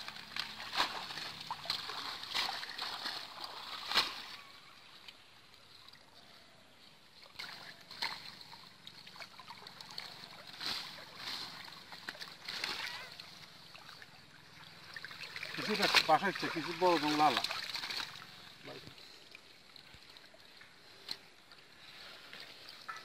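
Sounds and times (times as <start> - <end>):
pond water splashing: 0.0 - 23.0.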